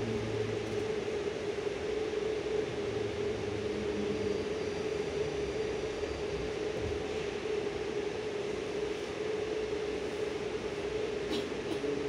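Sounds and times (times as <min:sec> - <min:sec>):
metro car equipment hum: 0:00.0 - 0:12.0.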